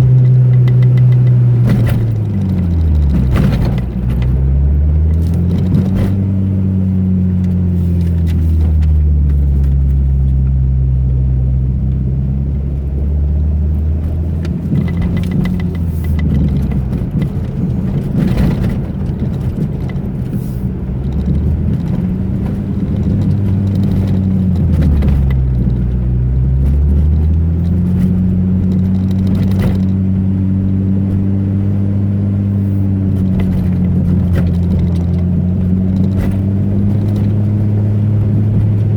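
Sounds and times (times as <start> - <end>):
car engine running: 0.0 - 38.9
knocks and rattles from road bumps: 0.0 - 38.9.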